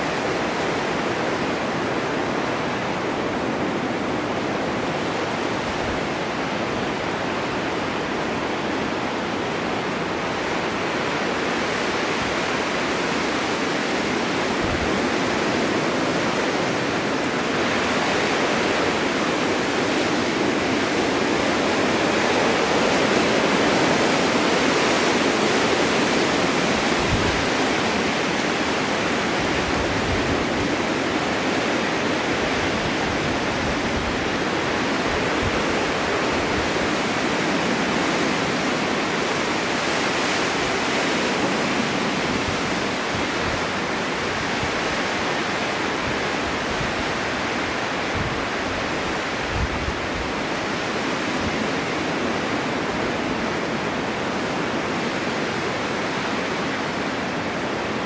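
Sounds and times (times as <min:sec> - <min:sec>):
low rumbling wind gusts: 0:00.0 - 0:58.0
storm wind rushing: 0:10.2 - 0:58.0.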